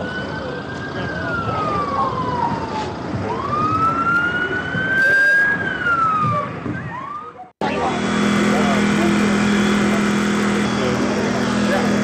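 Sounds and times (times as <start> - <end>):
emergency siren wailing: 0.0 - 12.0
steady background noise: 0.0 - 12.0.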